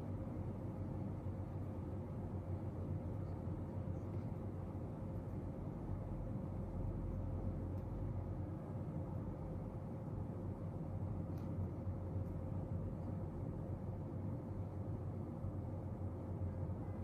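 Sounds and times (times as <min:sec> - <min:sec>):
faint steady tone: 0:00.0 - 0:17.0
low room hum: 0:00.0 - 0:17.0.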